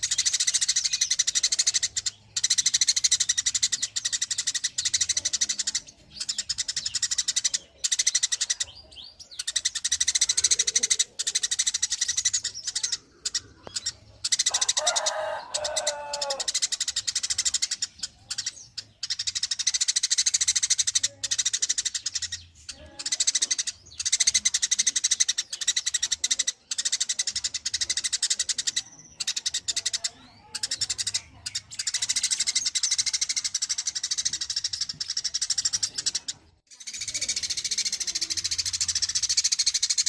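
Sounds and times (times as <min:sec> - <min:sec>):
small animal chattering call: 0:00.0 - 0:40.0.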